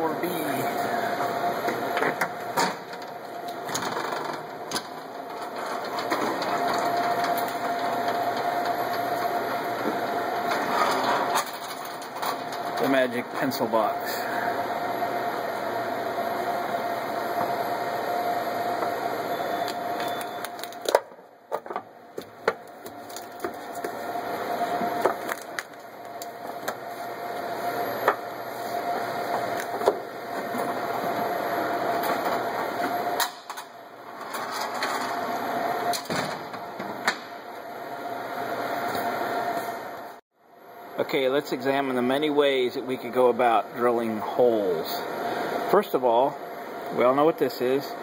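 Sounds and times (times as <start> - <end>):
mechanical hum with whine: 0.0 - 48.0.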